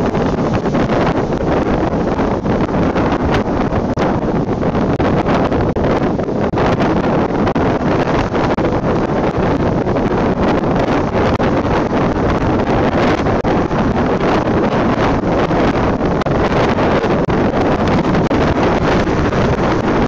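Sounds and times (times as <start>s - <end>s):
storm waves breaking on rocks: 0.0s - 20.0s
wind buffeting microphone: 0.0s - 20.0s.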